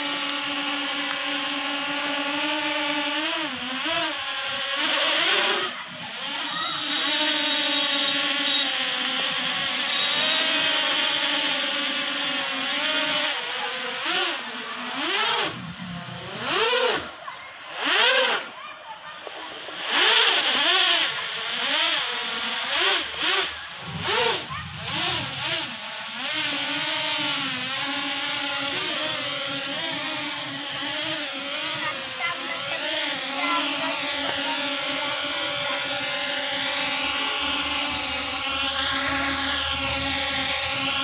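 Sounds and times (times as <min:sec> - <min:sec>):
toy drone propellers whining: 0:00.0 - 0:41.0.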